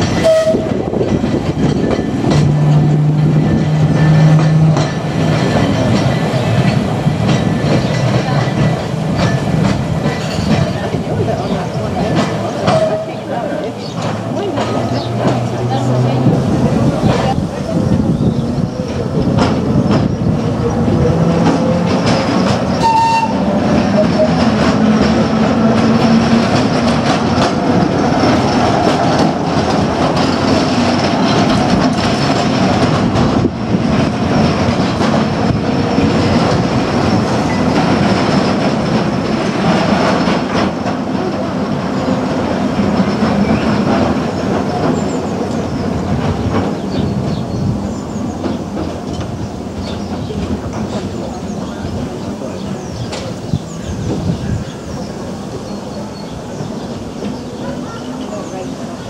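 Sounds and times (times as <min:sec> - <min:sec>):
tram wheels rumbling on rails: 0:00.0 - 0:59.0.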